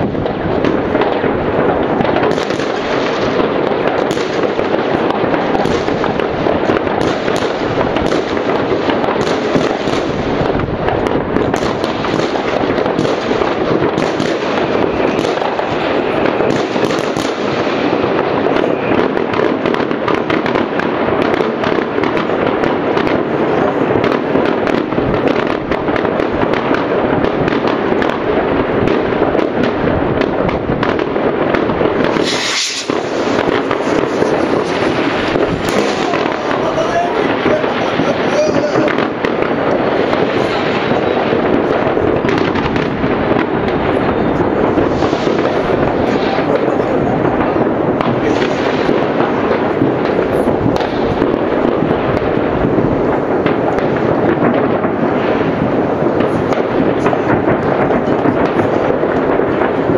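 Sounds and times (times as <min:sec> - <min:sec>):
distant fireworks bangs and crackles: 0:00.0 - 0:59.9
sharp firework cracks: 0:00.0 - 0:59.9.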